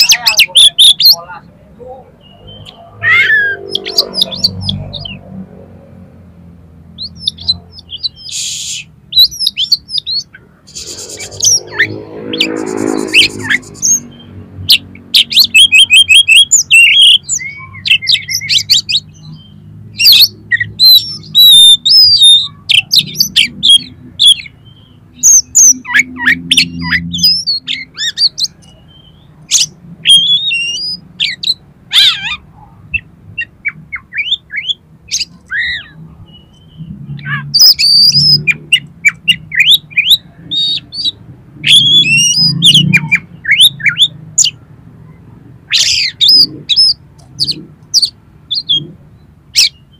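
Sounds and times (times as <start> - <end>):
bird singing varied song: 0.0 - 5.4, 6.8 - 49.9
harsh bird call: 2.1 - 5.2, 7.0 - 49.9.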